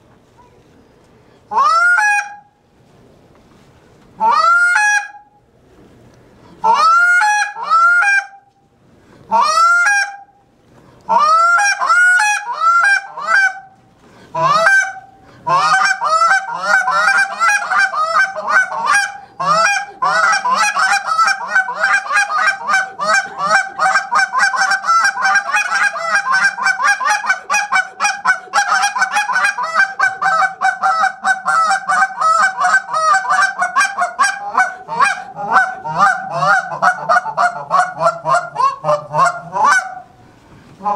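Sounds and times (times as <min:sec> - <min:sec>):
goose call honks and clucks: 0:01.5 - 0:02.5, 0:04.2 - 0:05.3, 0:06.6 - 0:08.5, 0:09.3 - 0:10.3, 0:11.1 - 0:40.1.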